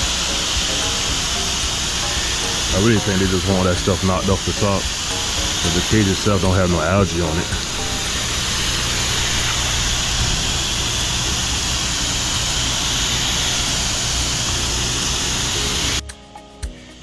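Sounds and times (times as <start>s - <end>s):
pressure washer engine running: 0.0s - 16.0s
water spray hissing: 0.0s - 16.0s.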